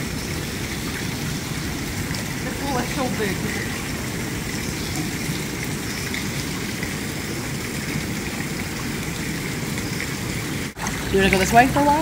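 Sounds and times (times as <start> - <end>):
pool water splashing and lapping: 0.0 - 12.0.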